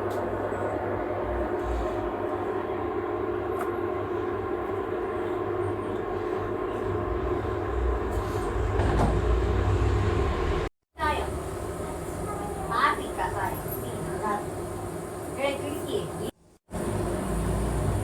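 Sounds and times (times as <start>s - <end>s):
stove burner rumble and hum: 0.0s - 18.0s.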